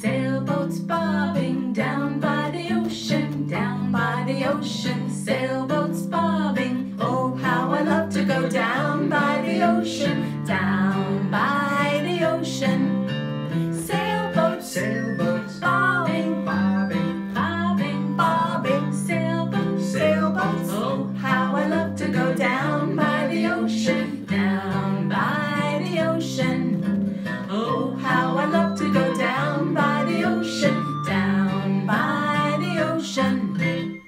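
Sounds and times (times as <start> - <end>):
person singing children's song: 0.0 - 13.1, 13.7 - 34.0
acoustic guitar picking and strumming: 0.0 - 34.0.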